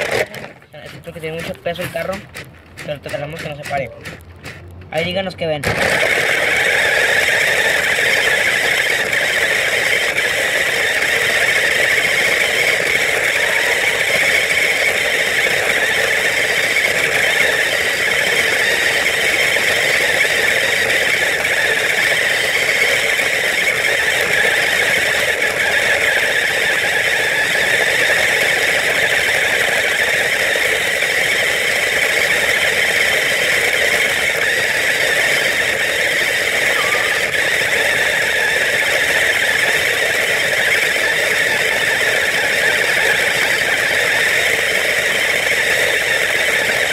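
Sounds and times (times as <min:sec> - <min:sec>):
plastic wheels rattling on pavement: 0:00.0 - 0:46.9
toy car motors whining: 0:00.0 - 0:46.9.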